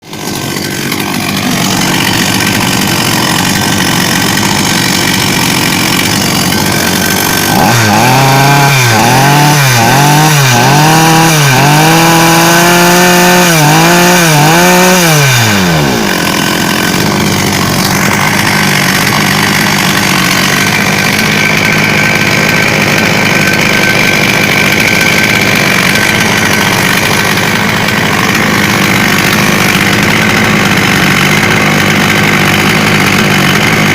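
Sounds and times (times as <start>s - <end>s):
chainsaw idling and revving: 0.0s - 33.9s.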